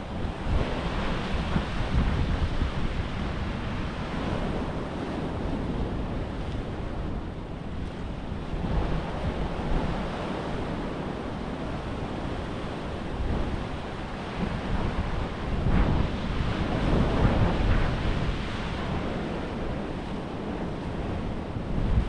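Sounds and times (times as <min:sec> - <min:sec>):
sea waves washing on shore: 0:00.0 - 0:22.0
wind buffeting microphone: 0:00.0 - 0:22.0.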